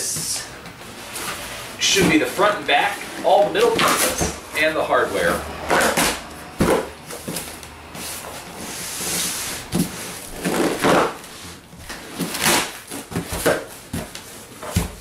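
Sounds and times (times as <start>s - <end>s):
cardboard box rubbing and scraping: 0.8s - 15.0s.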